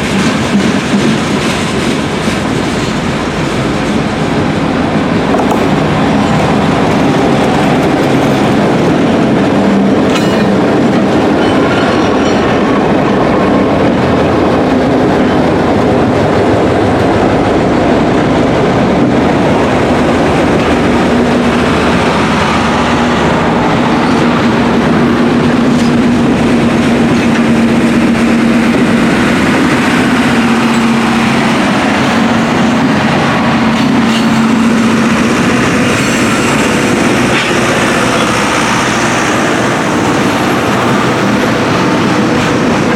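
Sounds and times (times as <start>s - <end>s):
clickety-clack over rail joints: 0.0s - 42.9s
train wheels rumbling: 0.0s - 42.9s.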